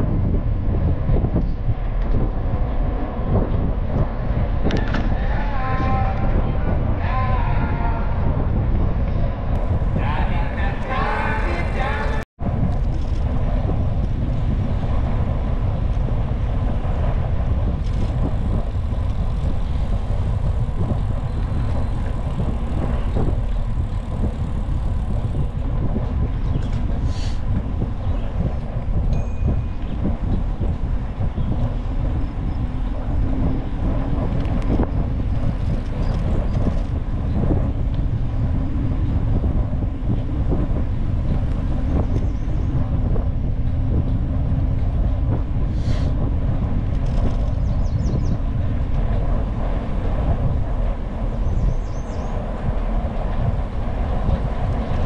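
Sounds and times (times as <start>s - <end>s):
light-metro train rumbling: 0.0s - 55.0s.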